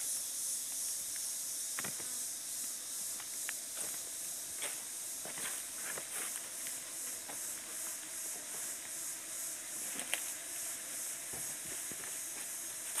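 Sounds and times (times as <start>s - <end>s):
insect chorus hissing: 0.0s - 13.0s.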